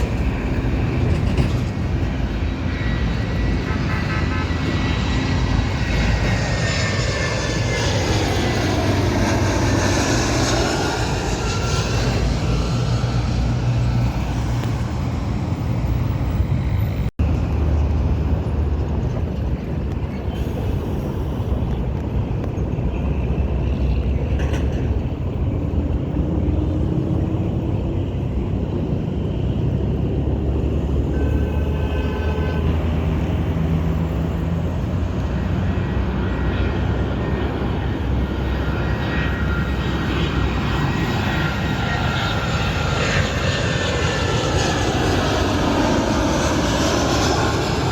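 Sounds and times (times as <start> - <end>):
jet engine whine passing overhead: 0.0 - 47.9.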